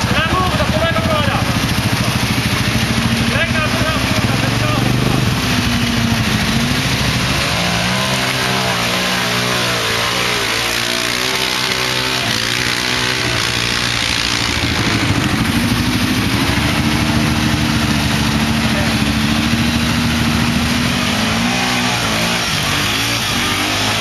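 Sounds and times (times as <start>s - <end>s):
quad bike engine idling: 0.0s - 24.0s
quad bike engine revving: 0.0s - 24.0s.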